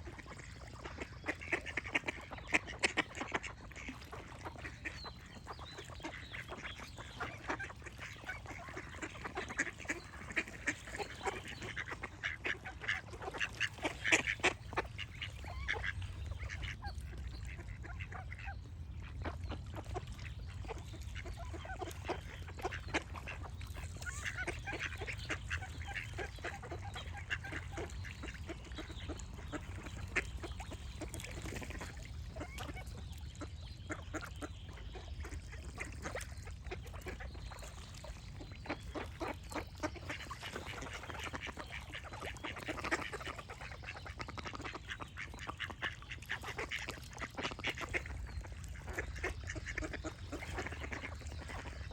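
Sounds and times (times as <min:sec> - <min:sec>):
ducks quacking: 0:00.0 - 0:51.9.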